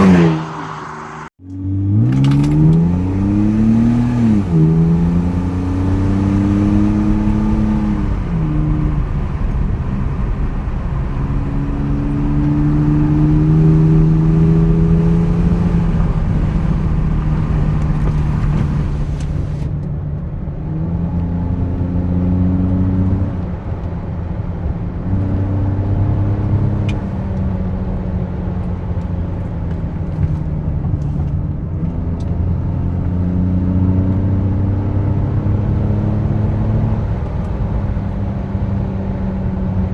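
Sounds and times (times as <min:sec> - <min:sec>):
car engine accelerating and easing off: 0:00.0 - 0:19.8, 0:20.4 - 0:39.9.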